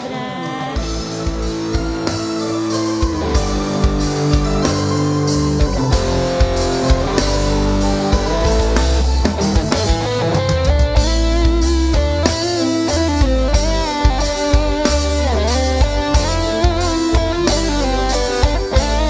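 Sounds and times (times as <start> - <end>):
drum kit beat: 0.0 - 19.0
electric guitar melody: 0.0 - 19.0
bass: 0.8 - 19.0.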